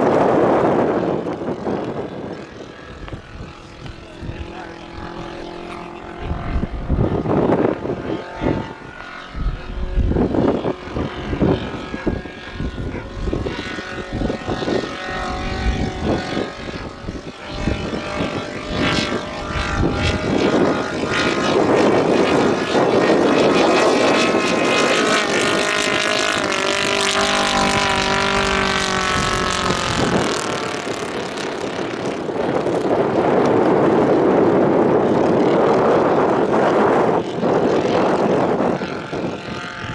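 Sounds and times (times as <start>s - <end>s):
model aircraft engine running: 0.0s - 39.9s.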